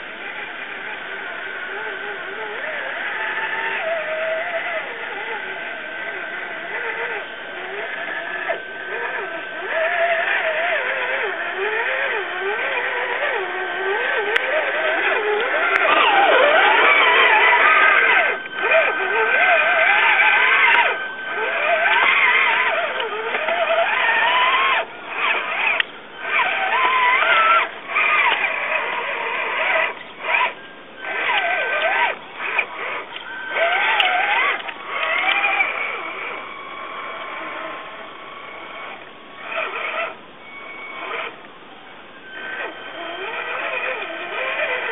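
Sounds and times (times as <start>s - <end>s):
electric motor and drivetrain whining: 0.0s - 44.9s.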